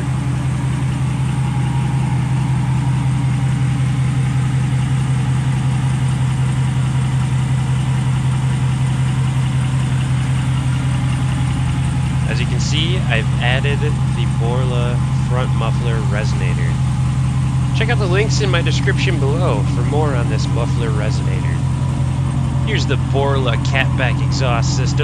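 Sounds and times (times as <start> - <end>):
pickup truck engine idling: 0.0 - 25.0.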